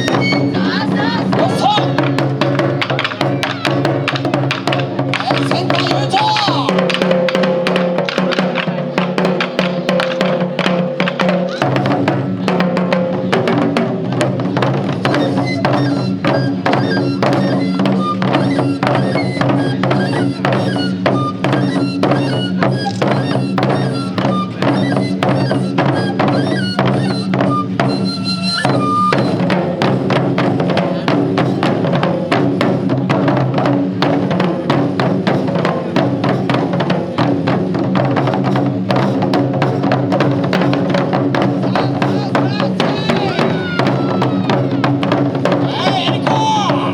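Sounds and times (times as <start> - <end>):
taiko drumming: 0.0 - 46.9.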